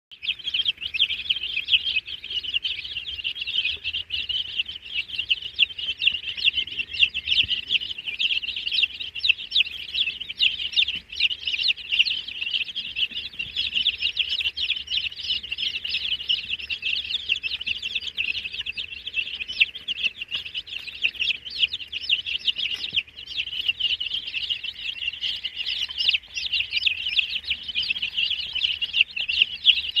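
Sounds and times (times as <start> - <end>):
baby chicks peeping: 0.1 - 30.0.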